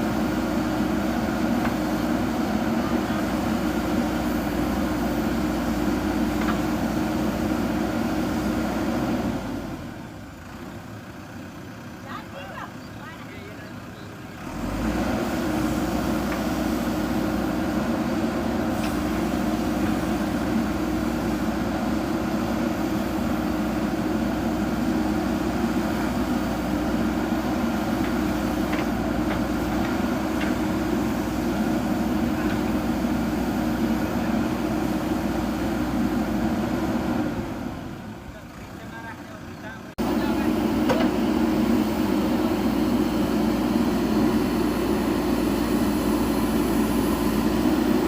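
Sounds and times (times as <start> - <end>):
backhoe diesel engine running: 0.0 - 48.0.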